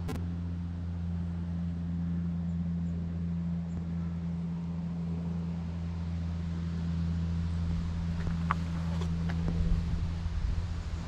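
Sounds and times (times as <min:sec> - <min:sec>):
low steady engine drone: 0:00.0 - 0:11.0.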